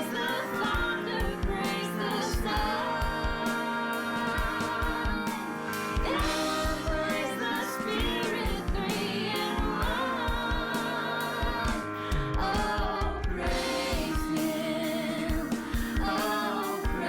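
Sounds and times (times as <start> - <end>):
person singing: 0.0 - 17.0
steady drum beat: 0.0 - 17.0
sustained instruments: 0.0 - 17.0.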